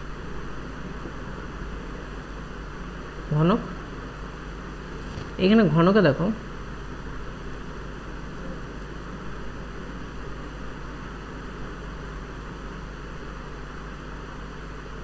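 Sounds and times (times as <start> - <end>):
faint low hum: 0.0 - 15.0
microphone hiss: 0.0 - 15.0.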